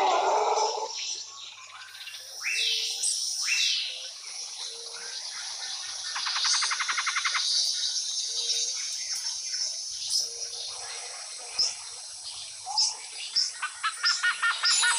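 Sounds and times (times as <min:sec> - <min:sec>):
birds chirping and trilling: 0:00.0 - 0:14.9
steady high-pitched hiss: 0:00.6 - 0:14.9.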